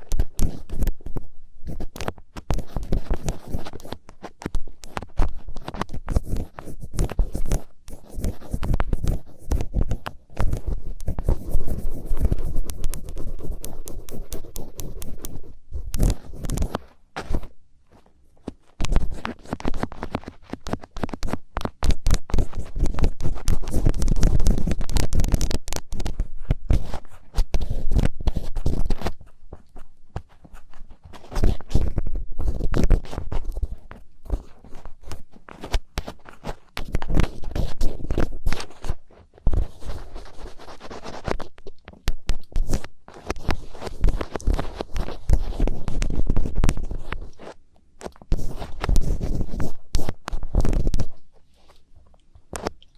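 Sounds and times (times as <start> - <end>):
ear picks scratching an ear: 0.0 - 17.5, 18.6 - 47.6, 48.2 - 51.8.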